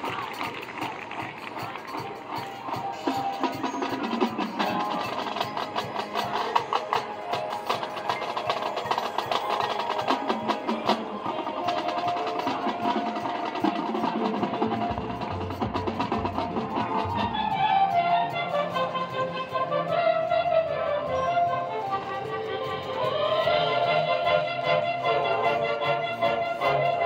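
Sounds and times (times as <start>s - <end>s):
marching band held notes: 0.0s - 27.0s.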